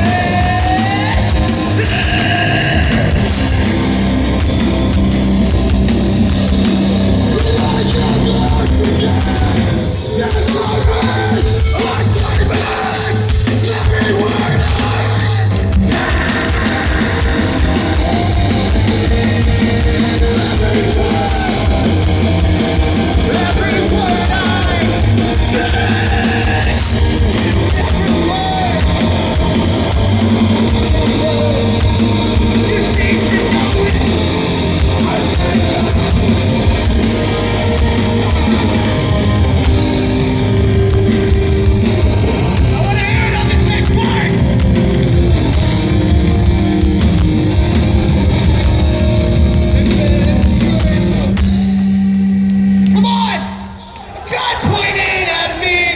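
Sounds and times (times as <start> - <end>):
distorted electric guitars: 0.0 - 55.9
drum kit: 0.0 - 55.9
heavy rock band playing live: 0.0 - 55.9.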